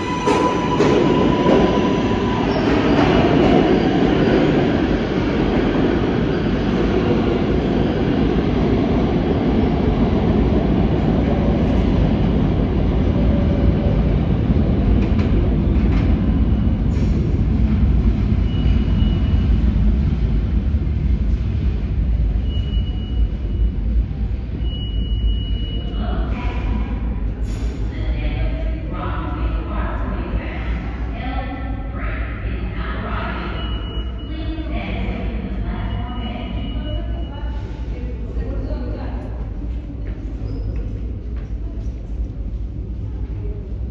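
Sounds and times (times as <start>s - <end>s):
subway train rumbling: 0.0s - 43.9s.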